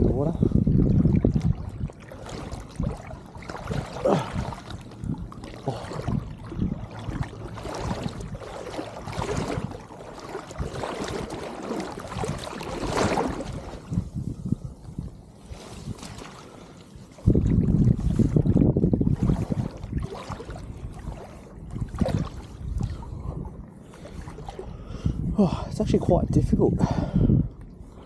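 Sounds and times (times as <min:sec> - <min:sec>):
seawater sloshing and splashing: 0:00.0 - 0:25.3.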